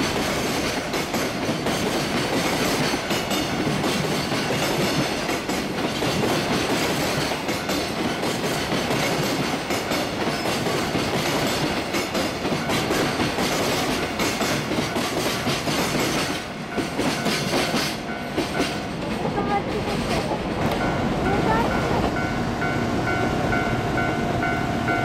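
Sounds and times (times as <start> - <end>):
freight train rumbling: 0.0 - 25.0
wheels clacking over rail joints: 0.0 - 25.0.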